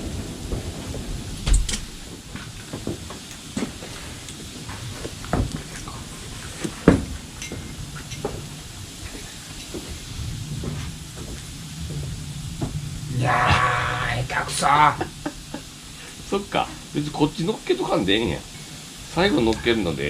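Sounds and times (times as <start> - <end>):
campfire burning: 0.0 - 20.0
fire popping: 0.0 - 20.0.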